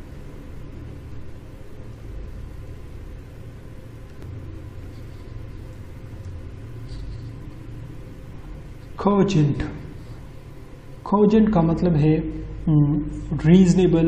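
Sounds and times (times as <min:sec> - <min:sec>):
faint hum: 0:00.0 - 0:14.0
low background rumble: 0:00.0 - 0:14.0.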